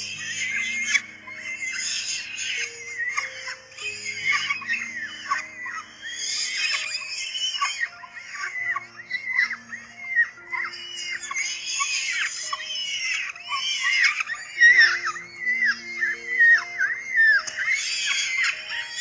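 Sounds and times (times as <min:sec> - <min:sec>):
music with low held notes: 0:00.0 - 0:19.0
nestling birds chirping: 0:00.0 - 0:19.0.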